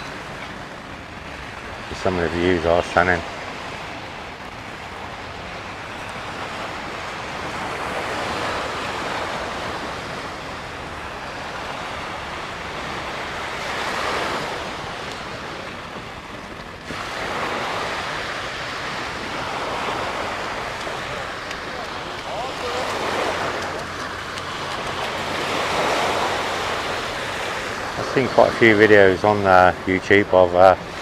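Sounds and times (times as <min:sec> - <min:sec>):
surf washing onto beach: 0:00.0 - 0:31.0.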